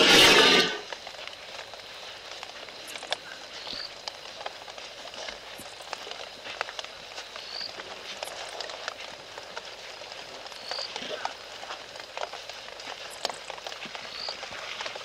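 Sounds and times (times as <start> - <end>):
crackles and ticks: 0.0 - 15.0
steady hiss: 0.0 - 15.0.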